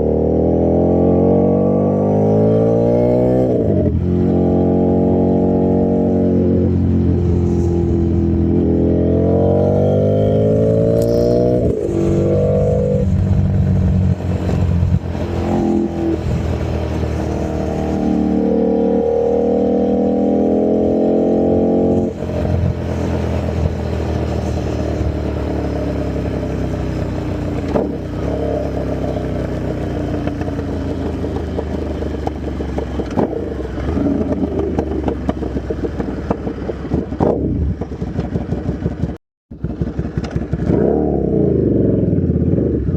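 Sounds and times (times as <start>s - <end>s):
motorcycle engine revving loudly: 0.0s - 42.9s.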